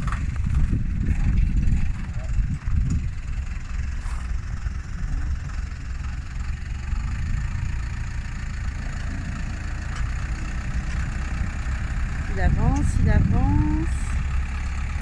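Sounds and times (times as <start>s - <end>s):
motorhome engine running: 0.0s - 15.0s.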